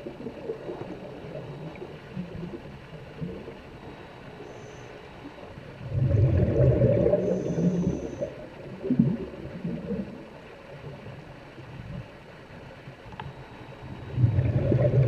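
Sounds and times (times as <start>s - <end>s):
underwater rushing and gurgling: 0.0s - 15.0s.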